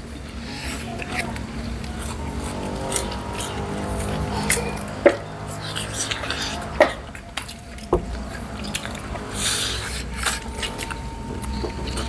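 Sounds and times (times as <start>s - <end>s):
wet chewing and sucking: 0.0s - 12.0s.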